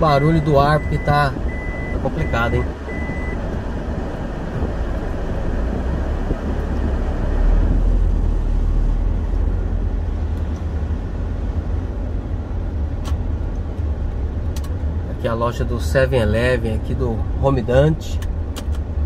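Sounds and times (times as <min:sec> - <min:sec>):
car air conditioner blowing: 0:00.0 - 0:19.0
car engine and tyre rumble: 0:00.0 - 0:19.0.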